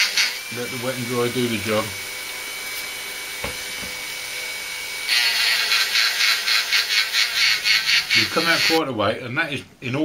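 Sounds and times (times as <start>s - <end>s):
rotary tool whine: 0.0s - 8.8s.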